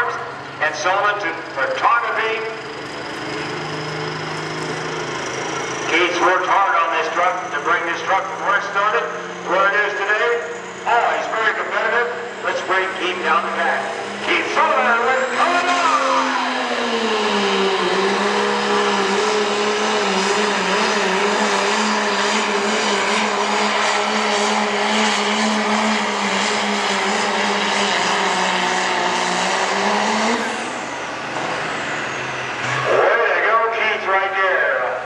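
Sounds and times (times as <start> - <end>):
diesel engine at high revs: 0.0 - 35.0.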